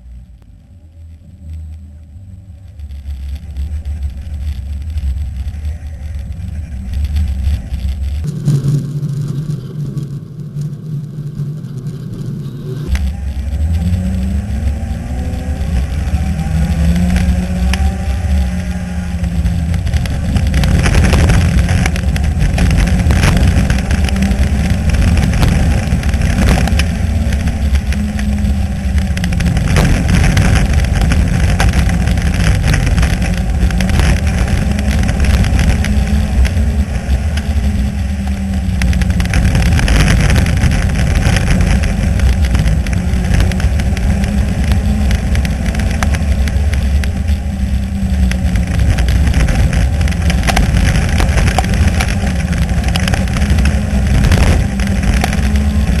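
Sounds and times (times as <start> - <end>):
race car engine revving: 2.0 - 56.0.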